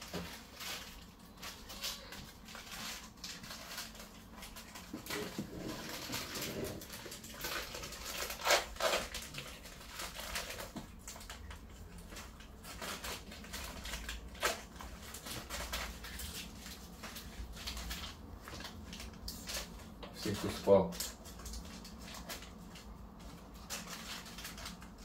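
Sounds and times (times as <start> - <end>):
crinkling handling noise: 0.0 - 25.0.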